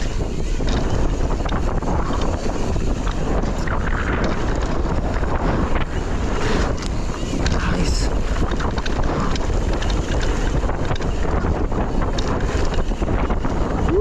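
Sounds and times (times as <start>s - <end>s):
bike rattling clicks: 0.0s - 14.0s
wind buffeting microphone: 0.0s - 14.0s.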